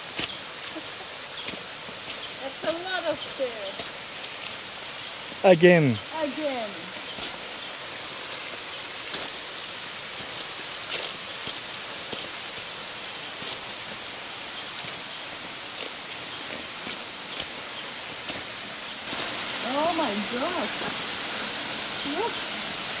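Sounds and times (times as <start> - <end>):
footsteps on leafy stone path: 0.0 - 5.4, 6.2 - 22.6
stream cascading over rocks: 0.0 - 23.0.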